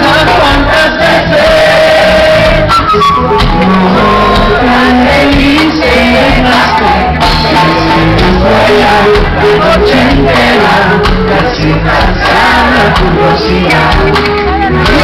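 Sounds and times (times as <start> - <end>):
live reggae band: 0.0 - 15.0
people singing and shouting: 0.0 - 15.0.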